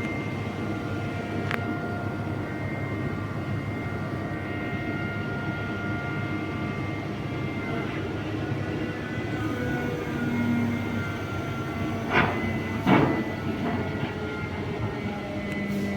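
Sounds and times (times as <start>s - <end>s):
steady machine whines: 0.0s - 15.9s.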